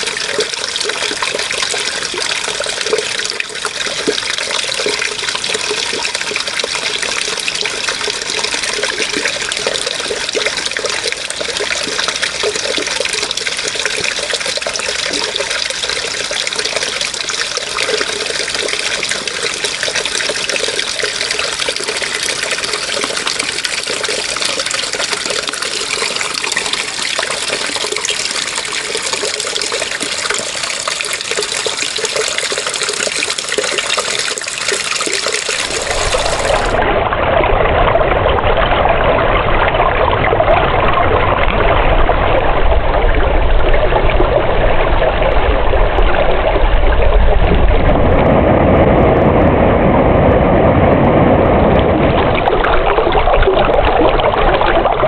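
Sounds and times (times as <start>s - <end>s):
water flowing: 0.0s - 49.5s, 51.6s - 55.0s.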